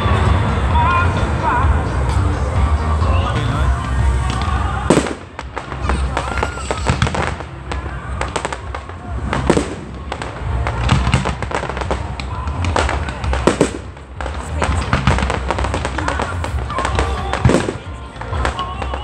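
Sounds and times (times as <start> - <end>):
fireworks bangs and crackling: 0.0 - 19.0
low rumble: 0.0 - 19.0.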